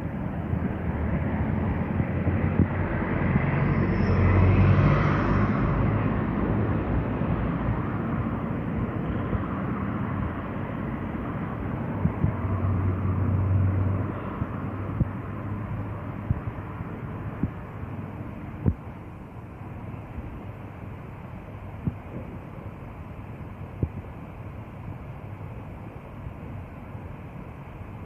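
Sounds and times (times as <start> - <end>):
distant diesel locomotive hum: 0.0 - 28.0.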